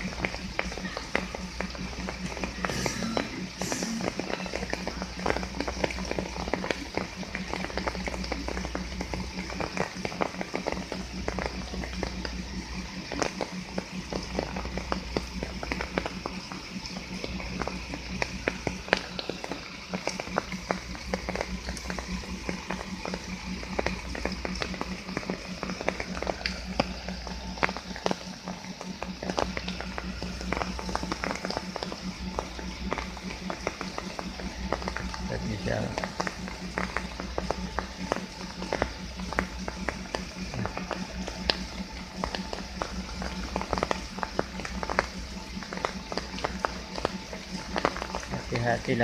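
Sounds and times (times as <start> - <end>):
diesel truck engine running: 0.0 - 49.0
sharp clicks and crackles: 0.0 - 49.0.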